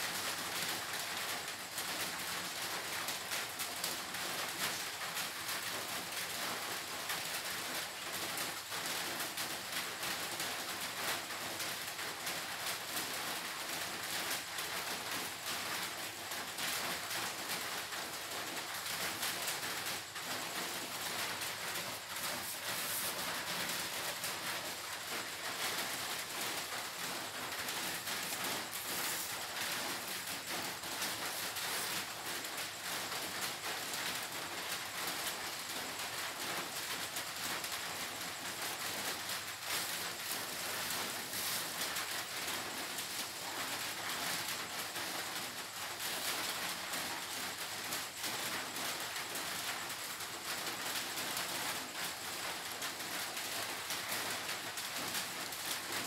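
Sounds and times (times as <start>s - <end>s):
steady crackly hiss: 0.0s - 56.0s.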